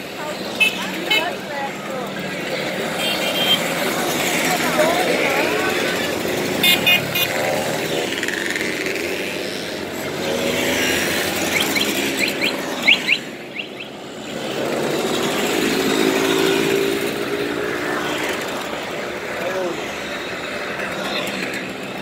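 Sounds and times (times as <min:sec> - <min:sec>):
mopeds passing by: 0:00.0 - 0:22.0.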